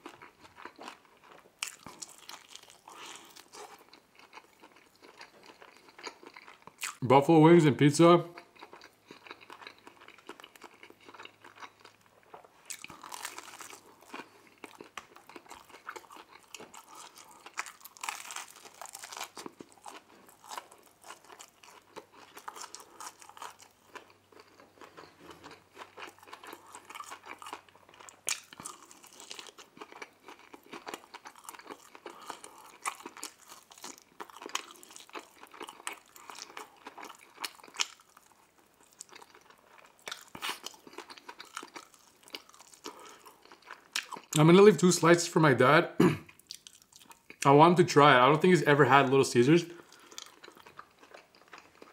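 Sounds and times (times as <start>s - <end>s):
biting and chewing food: 0.0s - 7.0s, 8.3s - 44.4s, 46.3s - 47.5s, 49.8s - 51.9s.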